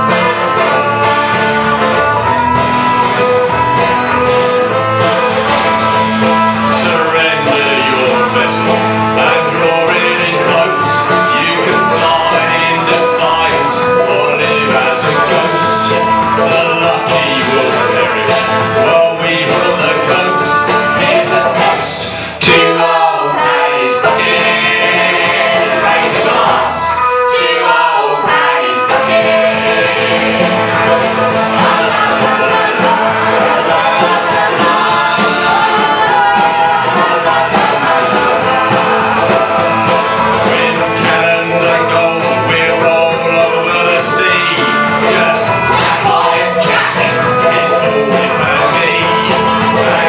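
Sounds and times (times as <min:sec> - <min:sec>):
acoustic guitar strumming: 0:00.0 - 0:50.0
banjo: 0:00.0 - 0:50.0
upright bass: 0:00.0 - 0:50.0
voices singing together: 0:00.0 - 0:50.0.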